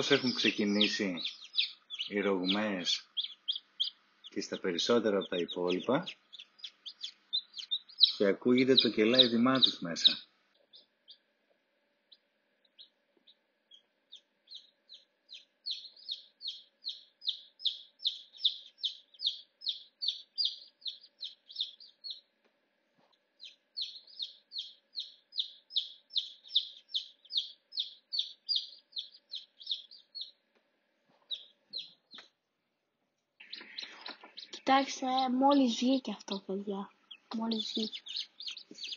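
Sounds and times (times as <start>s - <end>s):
chicks peeping: 0.0s - 32.4s, 33.4s - 38.9s.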